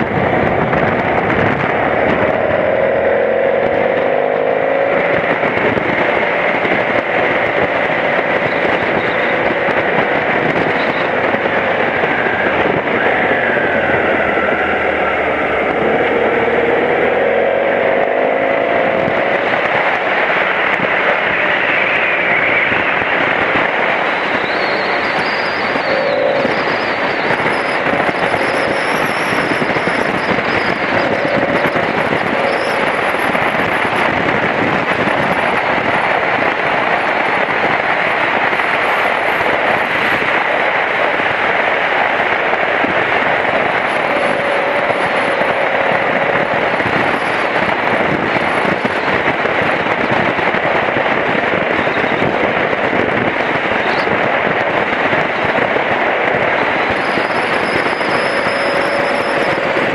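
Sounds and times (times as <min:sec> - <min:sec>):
motorcycle engine running: 0:00.0 - 0:22.4, 0:23.1 - 0:41.2, 0:42.3 - 0:50.9
wind rushing over microphone: 0:00.0 - 0:59.9.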